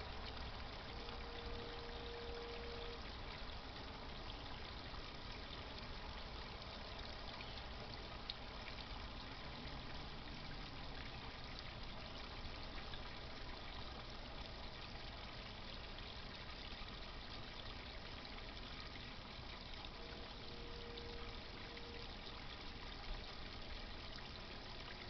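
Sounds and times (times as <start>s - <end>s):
pond pump water trickling: 0.0s - 25.0s.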